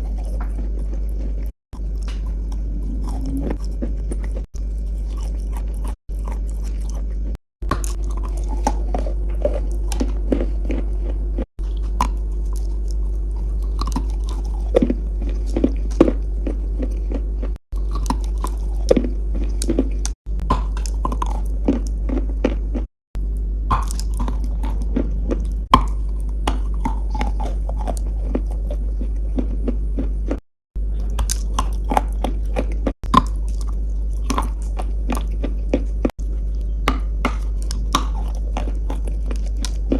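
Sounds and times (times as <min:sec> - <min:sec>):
crunching chewing of chalk: 0:00.0 - 0:39.9
steady low hum: 0:00.0 - 0:39.9.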